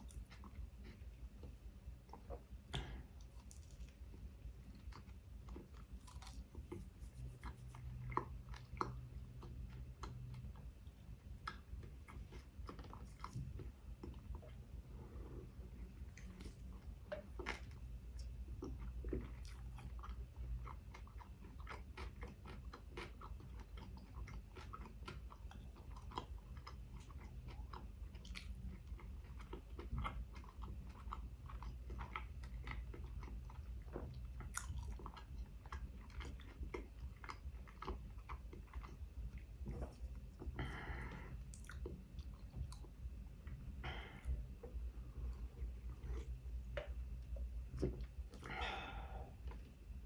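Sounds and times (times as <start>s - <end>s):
chewing with wet mouth clicks: 0.0s - 48.7s
low steady hum: 0.0s - 50.0s.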